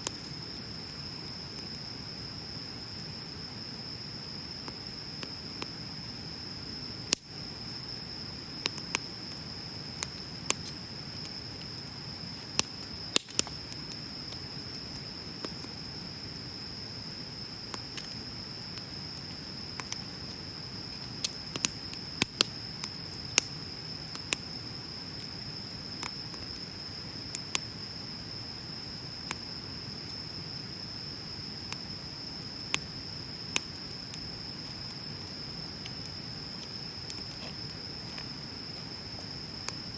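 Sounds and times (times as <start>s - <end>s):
bonfire crackling and popping: 0.0s - 30.8s, 31.4s - 39.9s.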